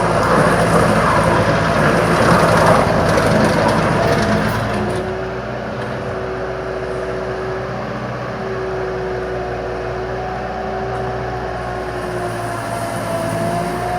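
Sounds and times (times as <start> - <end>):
constant whine: 0.0 - 13.9
diesel engine running: 0.0 - 13.9.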